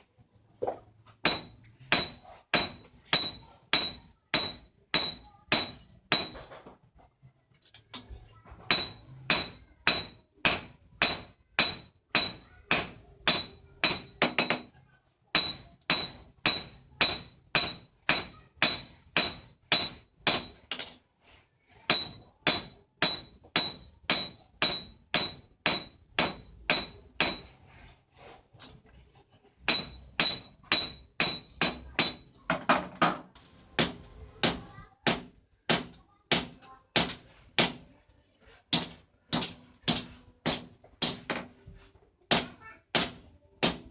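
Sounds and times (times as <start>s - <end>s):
hammer clanging on steel: 0.6s - 6.8s, 7.9s - 21.0s, 21.9s - 27.6s, 29.6s - 37.9s, 38.7s - 41.7s, 42.3s - 43.9s.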